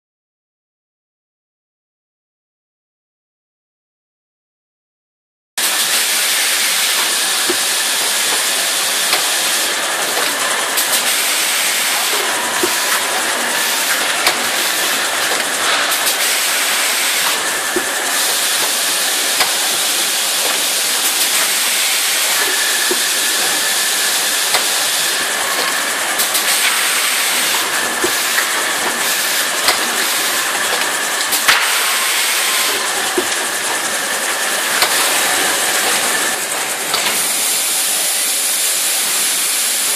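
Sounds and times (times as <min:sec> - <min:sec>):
machinery hissing: 0:05.6 - 0:39.9.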